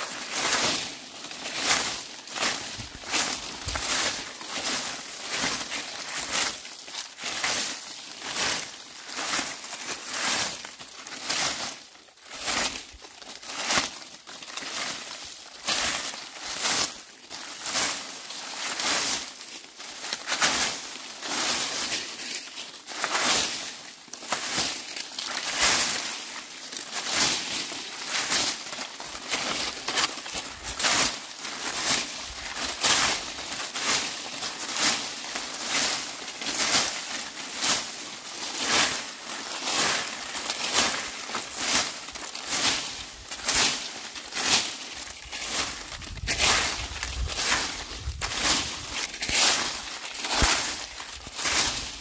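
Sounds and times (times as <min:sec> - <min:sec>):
broom sweeping dry leaves: 0:00.0 - 0:52.0.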